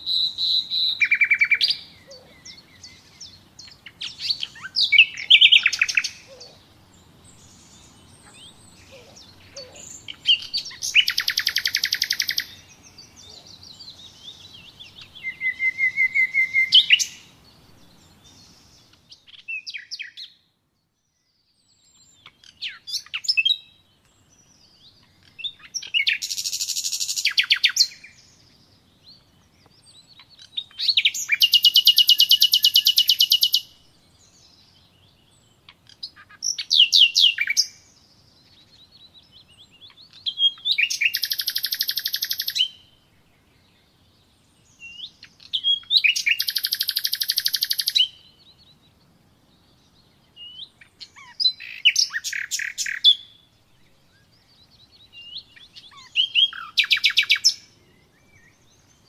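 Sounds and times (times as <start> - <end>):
songbird trilling: 0.0 - 20.4, 21.6 - 43.0, 44.6 - 48.8, 49.6 - 59.0.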